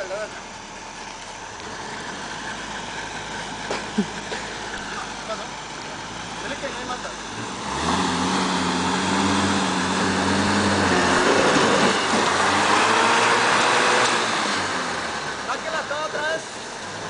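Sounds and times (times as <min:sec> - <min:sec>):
engine revving under load: 0:00.0 - 0:17.0.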